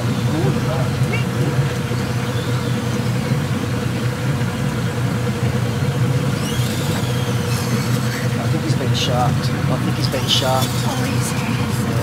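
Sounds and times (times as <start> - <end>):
faint rising whine: 0.0 - 11.7
outboard motor droning: 0.0 - 12.0.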